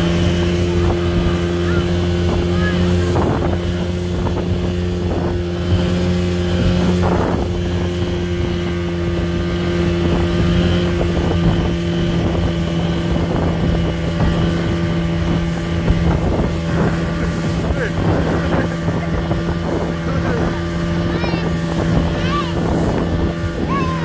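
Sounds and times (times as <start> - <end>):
rushing water: 0.0 - 24.0
speedboat engine running: 0.0 - 24.0
wind on microphone: 0.0 - 24.0.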